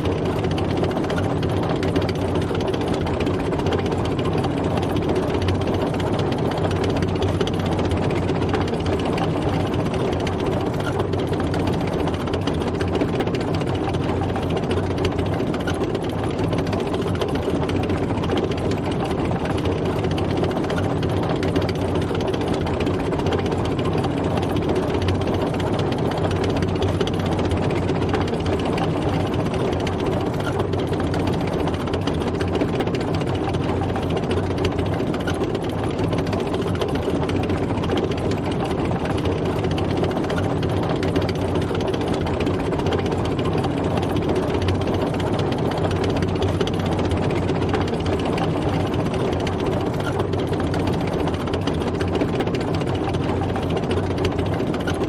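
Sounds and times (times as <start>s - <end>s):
tank engine running: 0.0s - 55.0s.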